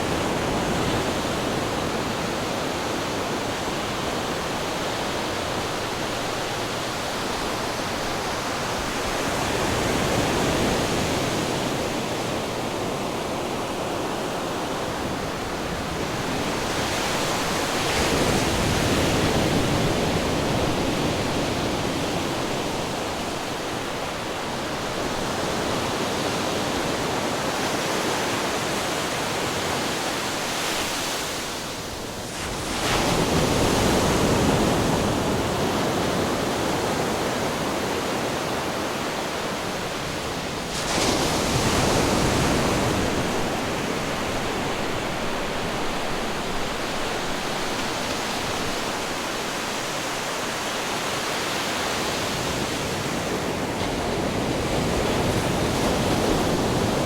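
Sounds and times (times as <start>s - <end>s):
ocean waves crashing on rocks: 0.0s - 57.0s.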